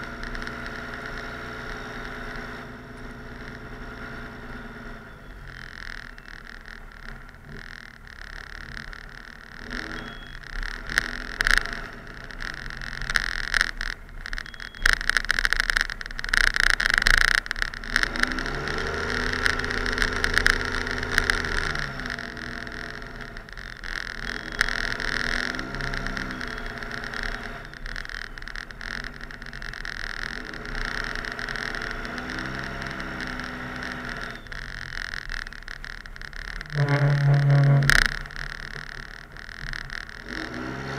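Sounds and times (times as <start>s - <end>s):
diesel engine revving: 0.0s - 13.9s, 16.6s - 40.9s
clicks and knocks: 5.4s - 40.9s.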